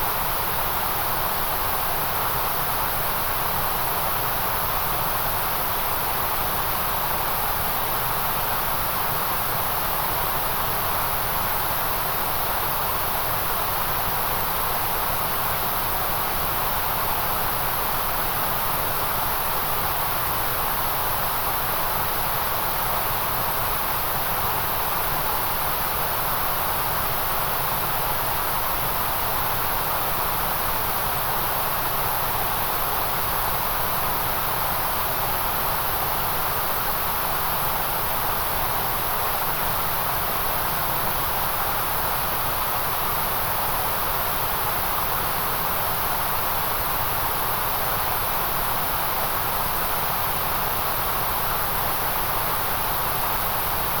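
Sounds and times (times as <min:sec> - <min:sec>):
electronic white noise hiss: 0:00.0 - 0:54.0.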